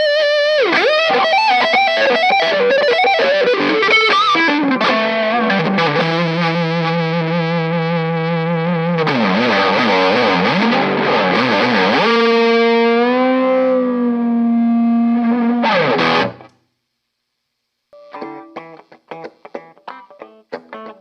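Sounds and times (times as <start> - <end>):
distorted electric guitar: 0.0 - 16.7, 17.9 - 21.0.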